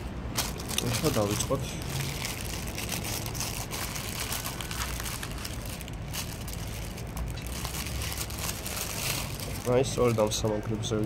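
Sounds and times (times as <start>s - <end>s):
plastic packaging crinkling: 0.3s - 10.4s.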